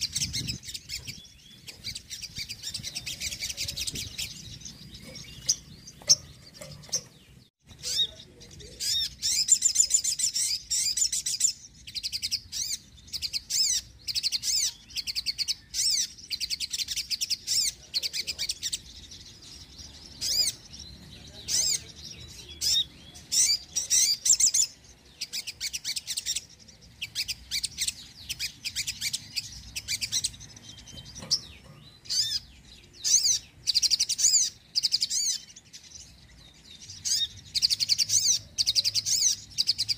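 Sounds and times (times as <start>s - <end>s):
bird chattering trills: 0.0s - 35.6s, 36.8s - 39.9s.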